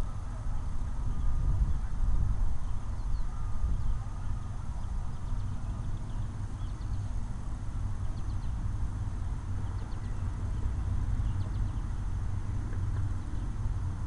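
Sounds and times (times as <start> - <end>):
low rumbling microphone noise: 0.0 - 14.0.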